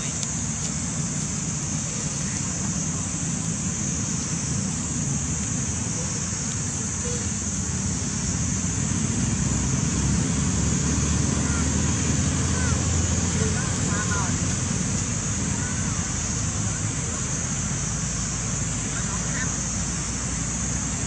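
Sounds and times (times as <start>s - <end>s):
constant high-pitched hiss: 0.0s - 21.0s.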